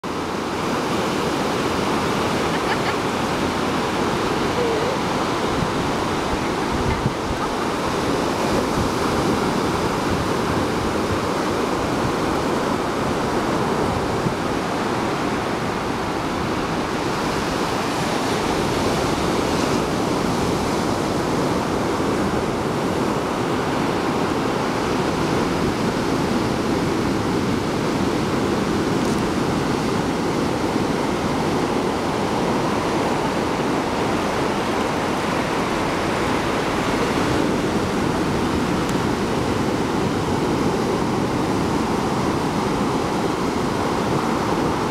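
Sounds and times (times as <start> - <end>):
ocean surf breaking on beach: 0.0 - 44.9.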